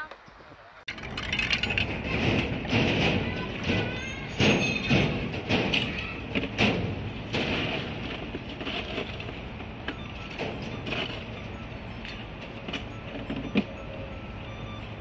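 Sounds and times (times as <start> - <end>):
street traffic hum: 0.0 - 15.0.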